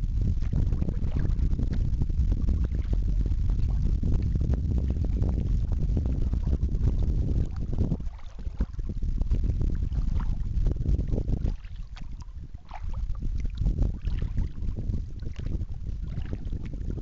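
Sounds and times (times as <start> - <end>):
water lapping at hull: 0.0 - 17.0
wind buffeting microphone: 0.0 - 17.0.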